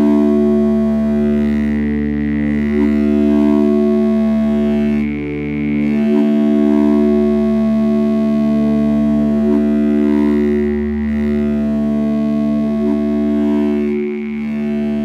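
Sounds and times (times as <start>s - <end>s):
synthesizer drone chord: 0.0s - 15.0s.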